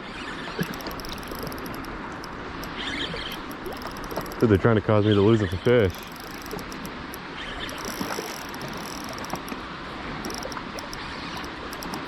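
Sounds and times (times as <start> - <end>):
faint ticks: 0.6 - 4.5, 5.6 - 12.0.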